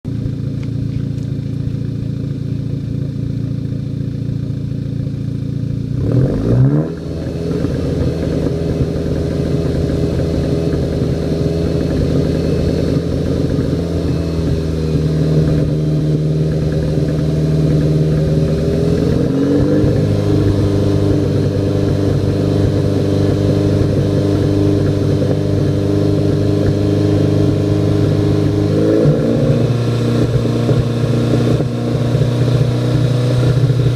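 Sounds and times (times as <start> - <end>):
car engine revving with misfires: 0.1 - 33.9.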